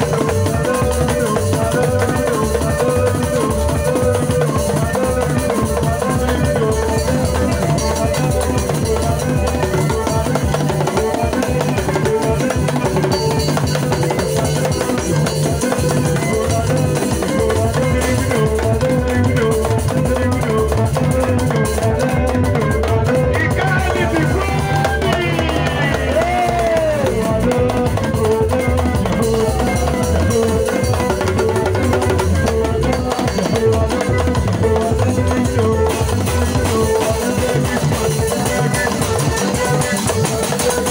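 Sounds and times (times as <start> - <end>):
band music: 0.0 - 40.9
drum kit beat: 0.0 - 40.9.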